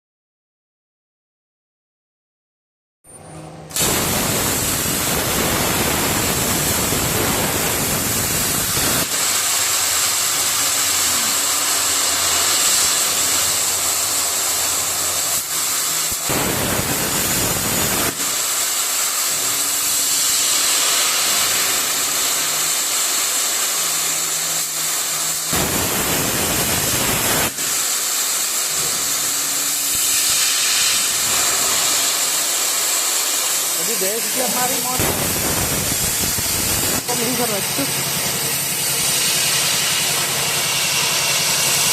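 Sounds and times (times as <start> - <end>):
plasma cutter torch hissing: 3.7 - 41.9.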